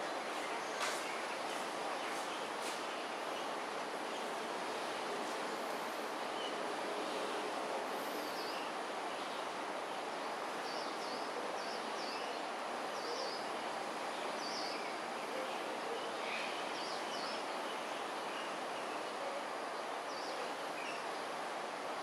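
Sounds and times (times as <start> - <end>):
river hiss: 0.0 - 22.0.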